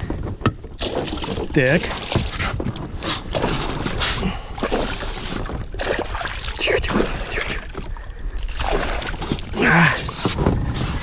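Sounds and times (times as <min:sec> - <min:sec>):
fish splashing in water: 0:00.8 - 0:10.2.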